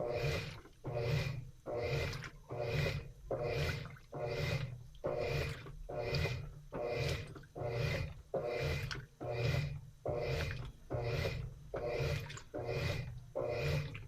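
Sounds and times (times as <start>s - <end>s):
washing machine swishing: 0.0s - 14.0s.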